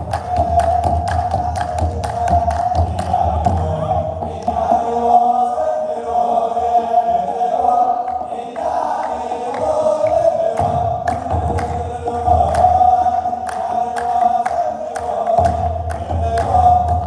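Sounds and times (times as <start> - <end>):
drums beating: 0.0 - 5.5, 6.2 - 17.0
men's choir chanting a hymn: 0.0 - 17.0.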